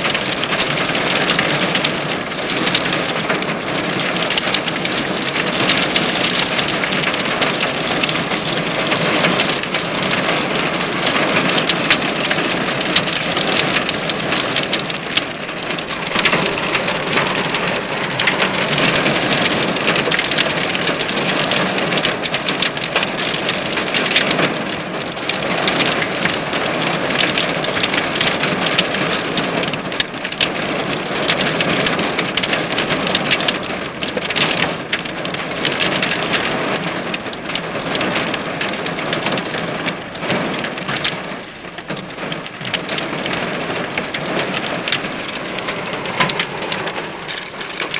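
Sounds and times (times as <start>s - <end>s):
heavy hail clattering: 0.0s - 47.9s.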